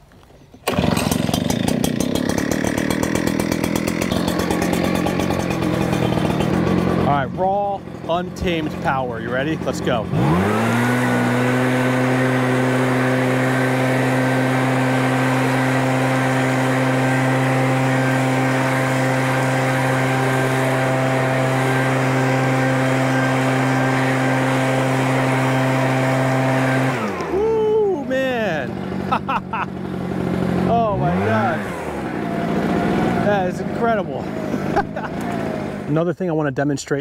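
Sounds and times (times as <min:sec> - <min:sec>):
leaf blower engine revving: 0:00.5 - 0:36.2.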